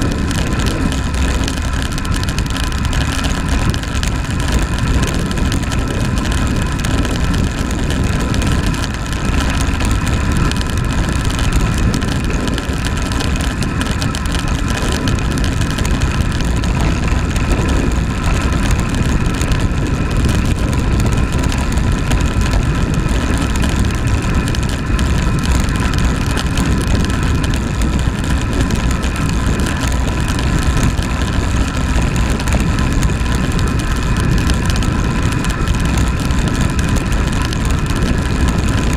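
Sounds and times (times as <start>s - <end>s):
bike tyres road noise: 0.0s - 38.9s
wind rushing over microphone: 0.0s - 38.9s.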